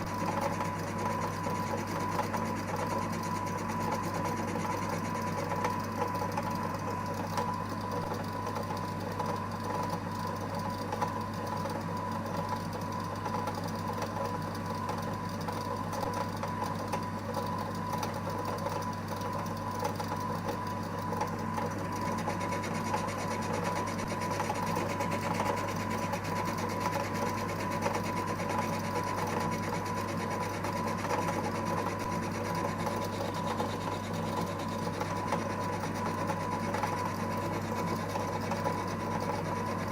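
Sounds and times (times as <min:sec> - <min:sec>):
lathe motor humming and whining: 0:00.0 - 0:39.9.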